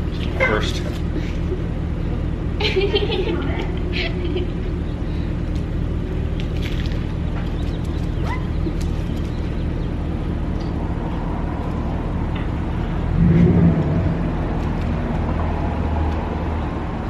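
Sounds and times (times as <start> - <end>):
vehicle engines idling: 0.0 - 17.0.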